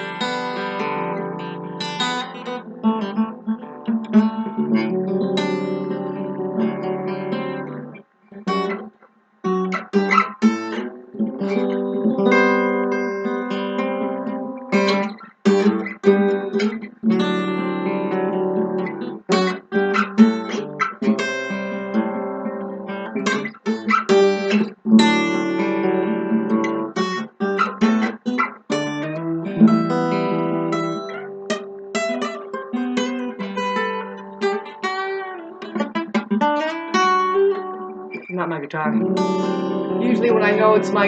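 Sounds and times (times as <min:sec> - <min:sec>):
guitar strummed chords: 0:00.0 - 0:41.0.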